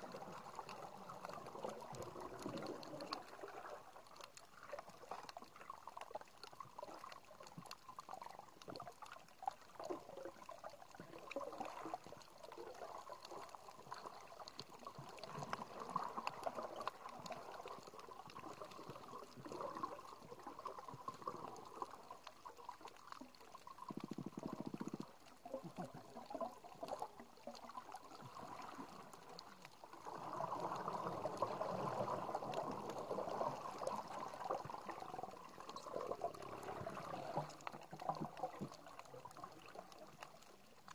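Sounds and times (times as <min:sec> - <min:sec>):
small crackling clicks: 0:00.0 - 0:40.9
underwater water wash and bubbling: 0:00.0 - 0:40.9.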